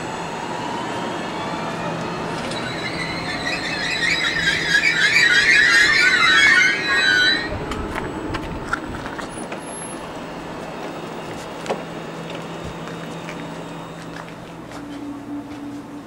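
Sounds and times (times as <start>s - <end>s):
train low hum: 0.0s - 16.0s
train brakes squealing: 0.5s - 8.2s, 9.2s - 16.0s.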